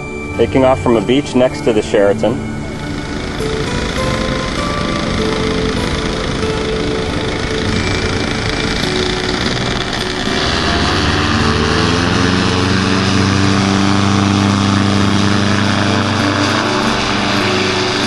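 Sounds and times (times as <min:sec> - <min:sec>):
paramotor engine running hard: 0:00.0 - 0:18.0.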